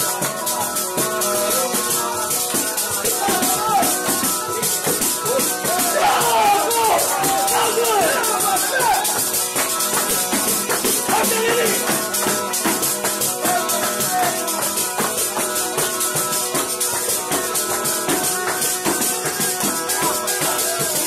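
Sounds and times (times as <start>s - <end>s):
frame drum beating fast rhythm: 0.0s - 21.0s.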